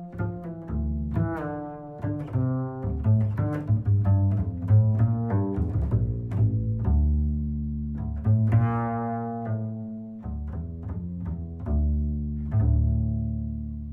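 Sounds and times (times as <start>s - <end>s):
plucked bass notes: 0.0s - 13.9s.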